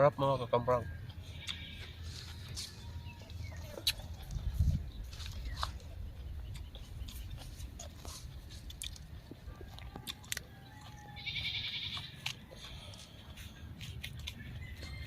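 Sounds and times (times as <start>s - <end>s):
chewing crunchy raw vegetables: 1.0s - 15.0s.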